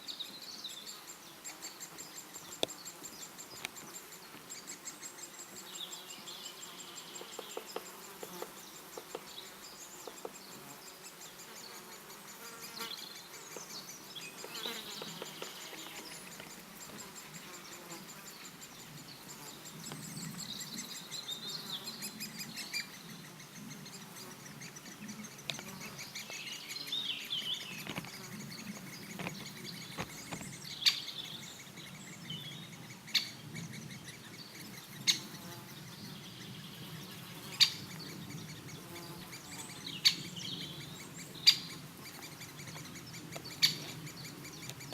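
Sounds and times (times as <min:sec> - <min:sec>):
insects buzzing: 0:00.0 - 0:44.9
small birds chirping: 0:00.0 - 0:44.9.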